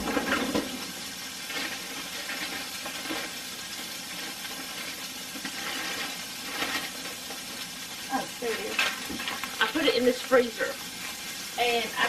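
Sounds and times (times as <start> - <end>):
patties sizzling in skillet: 0.0 - 12.0.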